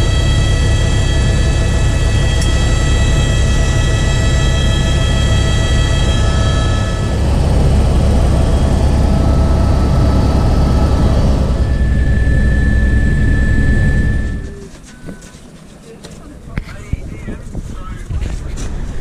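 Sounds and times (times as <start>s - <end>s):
high-pitched engine whine: 0.0s - 17.3s
helicopter rotor drone: 0.0s - 19.0s.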